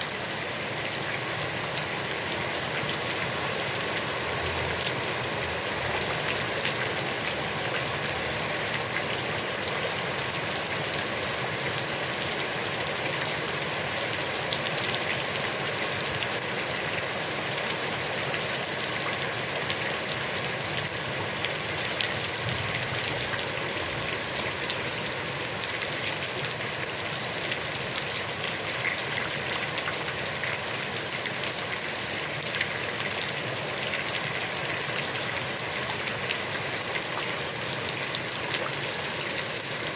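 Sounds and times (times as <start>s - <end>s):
heavy rain on pond: 0.0s - 39.9s.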